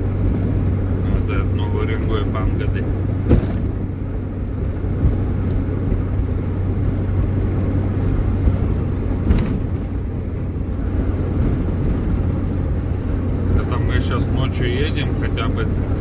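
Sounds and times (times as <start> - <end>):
engine and road drone in cab: 0.0 - 16.0.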